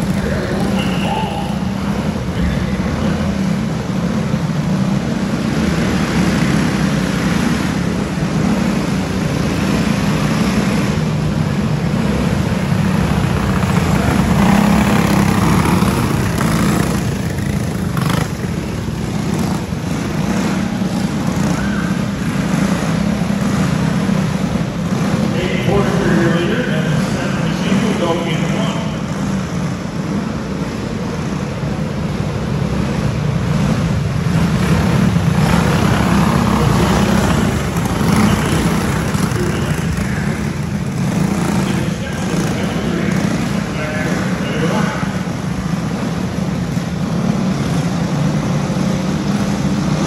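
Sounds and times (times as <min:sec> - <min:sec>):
go-kart engines droning: 0:00.0 - 0:50.0.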